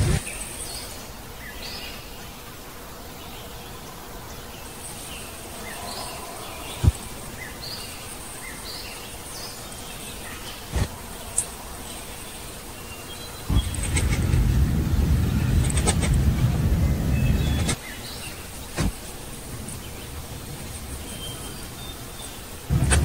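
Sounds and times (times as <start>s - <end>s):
high insect hiss: 0.0s - 23.0s
small birds chirping: 0.0s - 23.0s.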